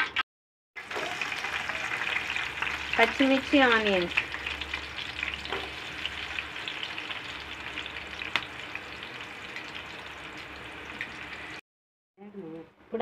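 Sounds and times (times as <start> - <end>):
onions sizzling in hot oil: 0.8 - 11.6.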